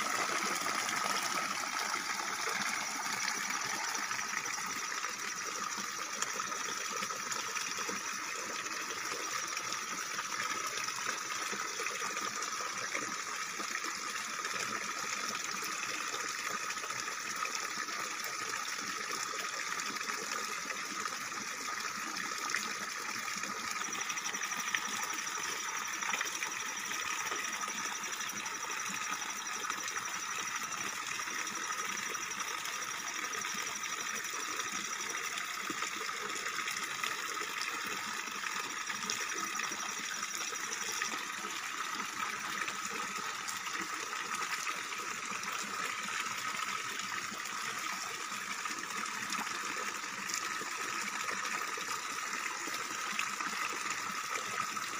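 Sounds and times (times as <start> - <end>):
water pouring and splashing: 0.0 - 15.5, 16.4 - 54.9.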